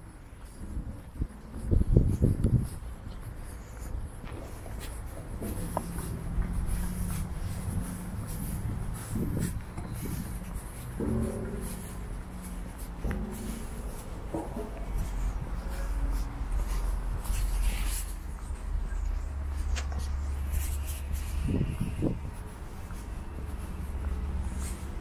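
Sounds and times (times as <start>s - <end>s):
distant traffic: 0.0s - 25.0s
footsteps on a paved path: 0.0s - 25.0s
wind: 0.0s - 25.0s.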